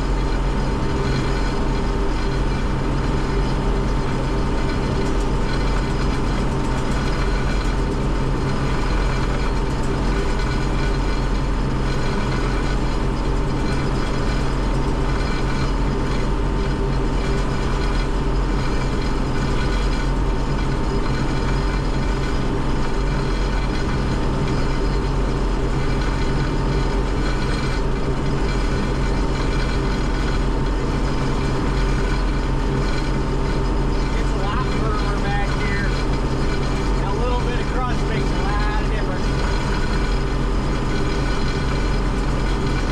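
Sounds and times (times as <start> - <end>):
combine harvester engine drone: 0.0 - 42.9
constant high whine: 0.0 - 42.9.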